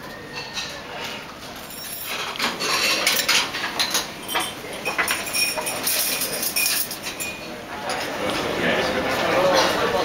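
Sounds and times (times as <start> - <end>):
crockery and cutlery clinking: 0.0 - 8.5.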